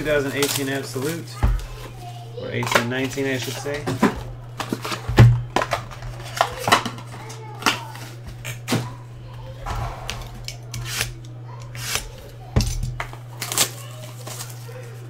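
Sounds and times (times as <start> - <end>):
card packs and boxes handled: 0.0 - 15.0
steady low hum: 0.0 - 15.0.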